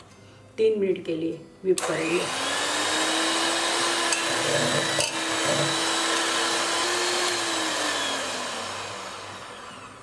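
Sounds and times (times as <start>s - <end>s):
electric hand mixer whipping cream: 1.8s - 10.0s.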